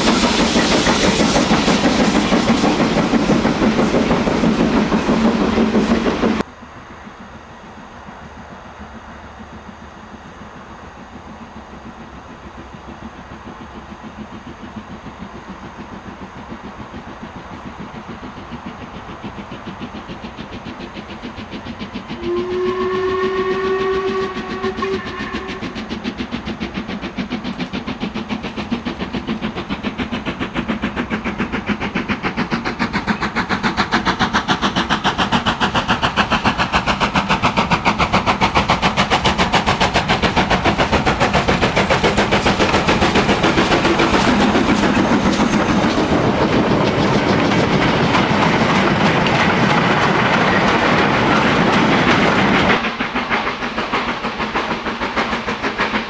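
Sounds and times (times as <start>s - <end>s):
steam locomotive exhaust beating: 0.0s - 56.0s.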